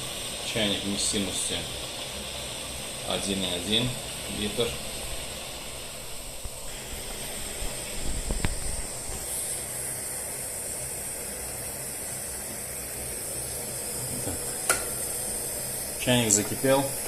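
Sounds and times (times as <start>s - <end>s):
gas camping stove hissing: 0.0s - 17.0s.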